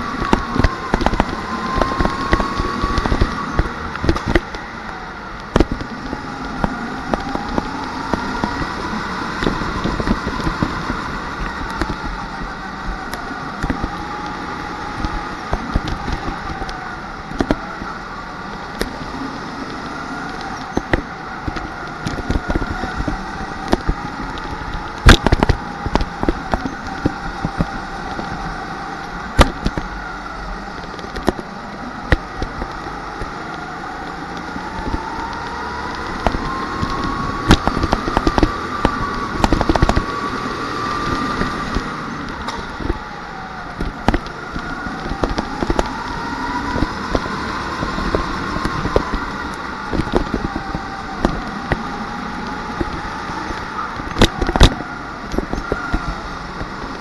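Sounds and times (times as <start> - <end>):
racing kart motor: 0.0 - 57.0.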